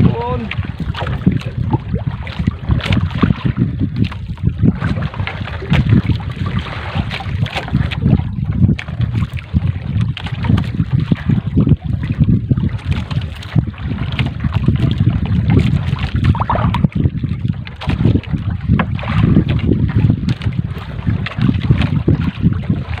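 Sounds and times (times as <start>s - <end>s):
water splashing and dripping: 0.0s - 23.0s
wind buffeting microphone: 0.0s - 23.0s.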